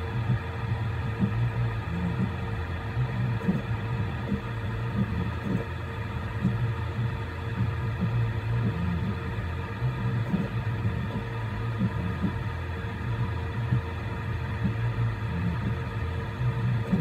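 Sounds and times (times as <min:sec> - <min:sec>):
printer motors pulsing: 0:00.0 - 0:17.0
three d printer hum: 0:00.0 - 0:17.0.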